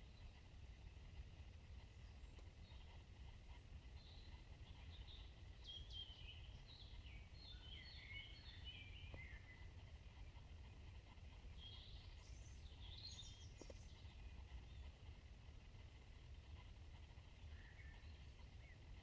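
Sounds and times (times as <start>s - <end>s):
faint songbird singing: 0.0s - 19.0s
low steady rumble: 0.0s - 19.0s.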